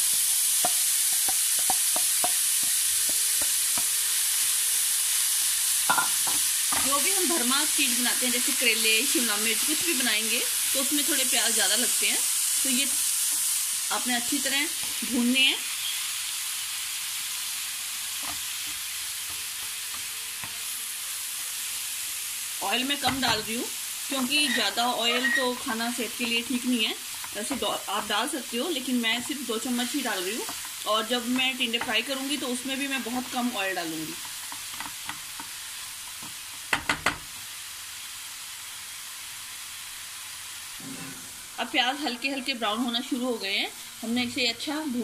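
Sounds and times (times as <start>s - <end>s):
onions sizzling in oil: 0.0s - 45.0s.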